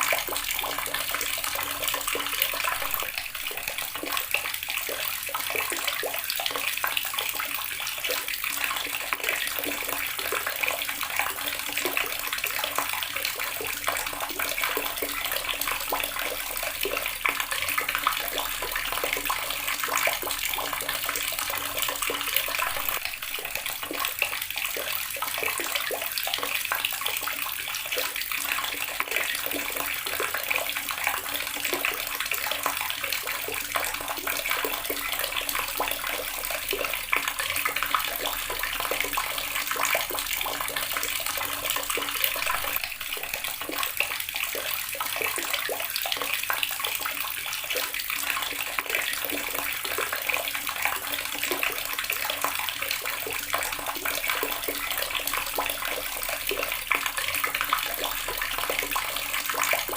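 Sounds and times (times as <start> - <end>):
tap water splashing into basin: 0.0 - 59.9.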